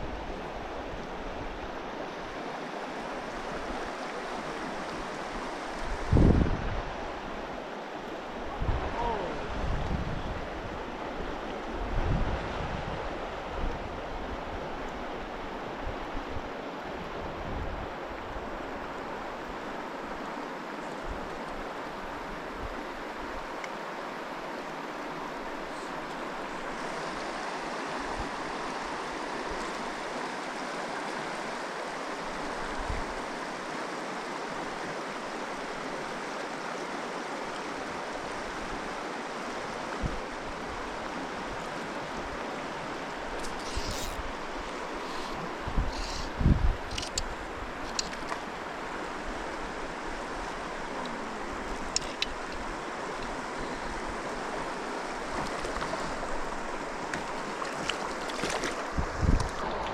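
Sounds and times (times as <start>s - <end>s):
mountain stream flowing water: 0.0s - 59.9s.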